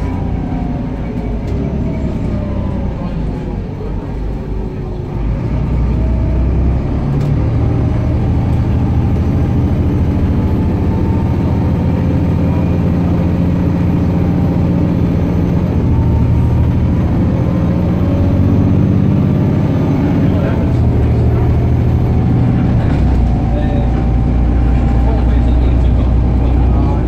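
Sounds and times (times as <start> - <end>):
bus diesel engine running: 0.0 - 27.0.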